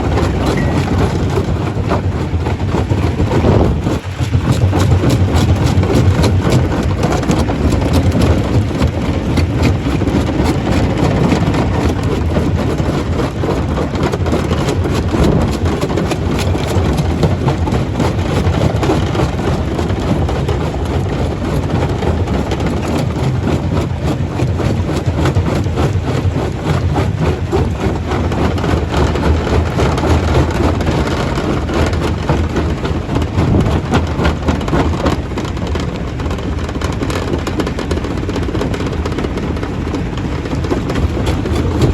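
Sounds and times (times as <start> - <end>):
stone crusher running: 0.0 - 41.9.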